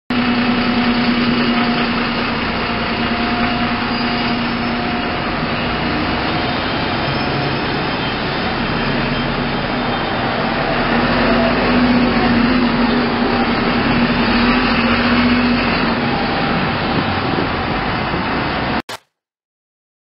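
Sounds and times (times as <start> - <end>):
street traffic: 0.1 - 18.8
bus engine humming: 0.2 - 18.0.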